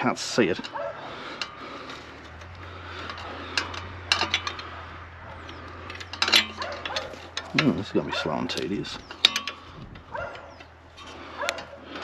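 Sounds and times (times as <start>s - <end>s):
spanners clinking on metal: 0.0s - 12.0s
steady low hum: 0.0s - 12.0s.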